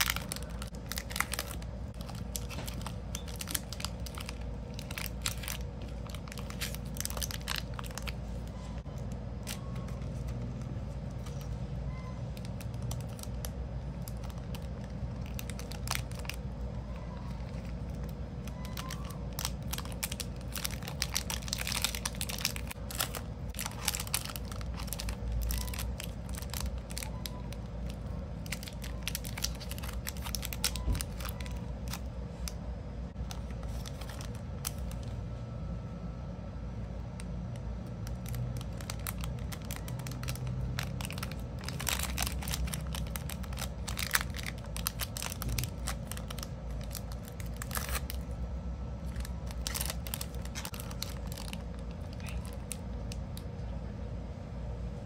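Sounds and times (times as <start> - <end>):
cellophane bag crinkling: 0.0 - 32.6, 33.2 - 35.2, 37.5 - 53.5
steady low hum: 0.0 - 55.0.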